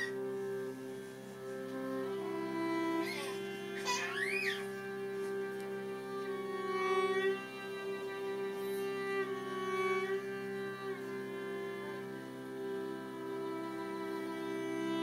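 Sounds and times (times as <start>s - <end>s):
cello playing: 0.0s - 15.0s
steady drone: 0.0s - 15.0s
violin playing slow melody: 0.0s - 15.0s.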